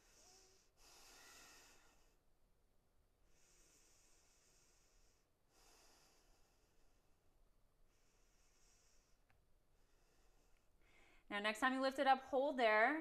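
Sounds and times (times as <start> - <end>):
woman breathing slowly: 0.0 - 2.5, 3.2 - 11.3.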